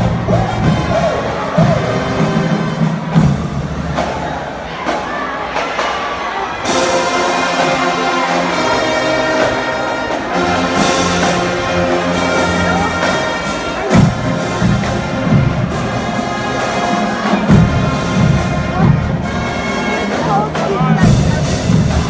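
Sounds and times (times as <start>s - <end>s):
marching band brass sustained notes: 0.0s - 22.0s.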